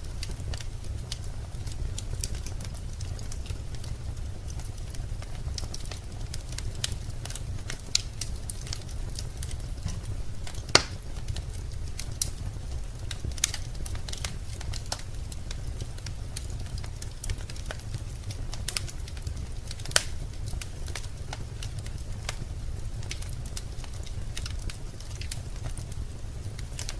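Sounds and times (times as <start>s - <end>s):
wood fire crackling: 0.0s - 26.9s
sharp pops of fire: 4.2s - 26.9s.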